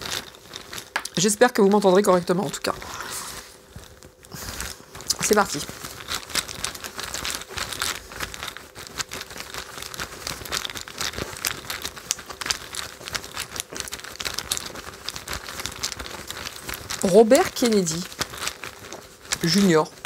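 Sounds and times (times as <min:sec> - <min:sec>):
fabric pouch and cards rustling: 0:00.0 - 0:20.0.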